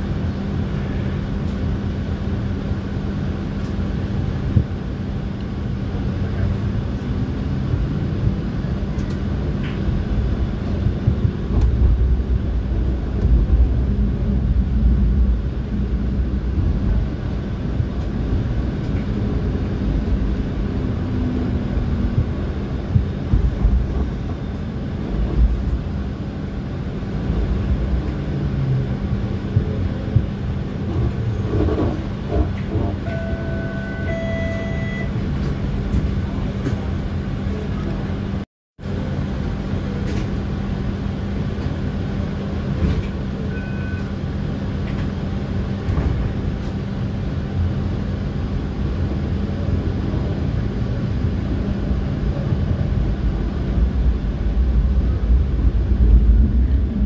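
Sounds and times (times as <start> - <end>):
constant low hum: 0.0 - 57.0
streetcar rumbling: 0.0 - 57.0.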